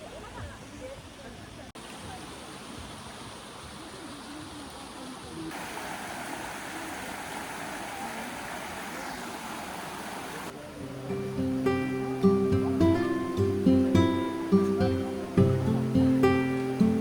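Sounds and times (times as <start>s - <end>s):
stream water rushing: 1.5s - 17.0s.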